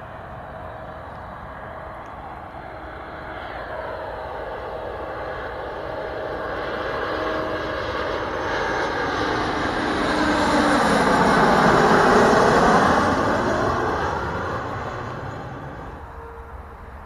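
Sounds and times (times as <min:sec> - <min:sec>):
jet airliner engines whining: 0:00.0 - 0:17.0.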